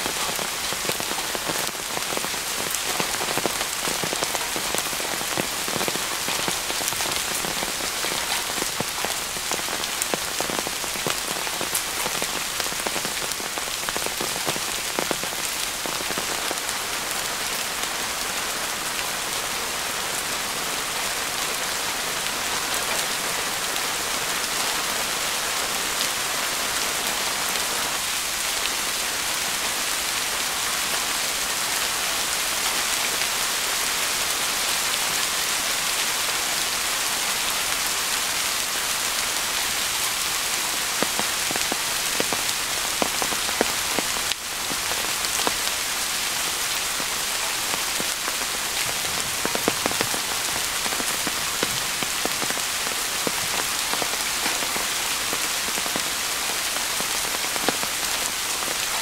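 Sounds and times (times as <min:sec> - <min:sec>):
rain falling on a tarp: 0:00.0 - 0:59.0.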